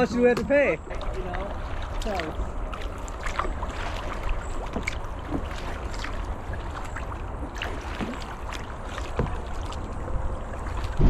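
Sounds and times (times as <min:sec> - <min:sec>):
paddle blades dipping and dripping: 0:00.0 - 0:11.0
steady low rumble: 0:00.0 - 0:11.0
water lapping against hull: 0:00.0 - 0:11.0
small splashes: 0:00.8 - 0:11.0.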